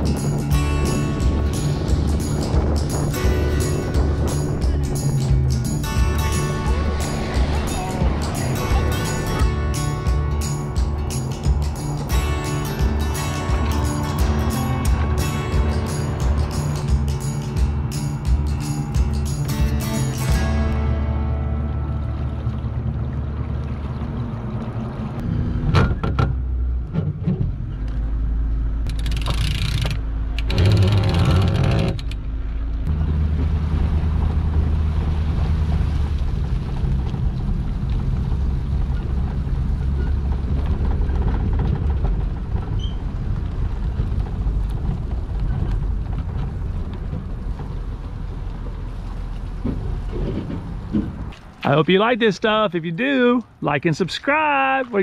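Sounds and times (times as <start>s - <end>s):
truck engine running under load: 0.0s - 51.6s.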